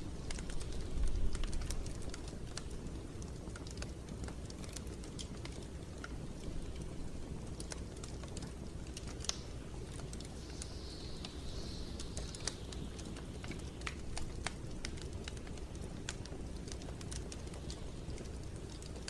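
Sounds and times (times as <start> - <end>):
soft hiss: 0.0 - 19.0
wood fire crackling and popping: 0.0 - 19.0.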